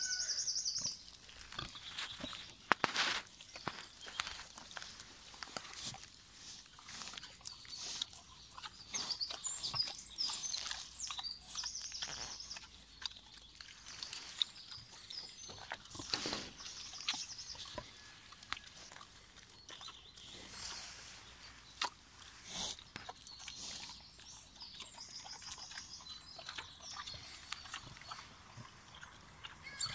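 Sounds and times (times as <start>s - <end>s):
small birds chirping: 0.0s - 29.9s
pig chewing and snuffling: 0.2s - 29.9s.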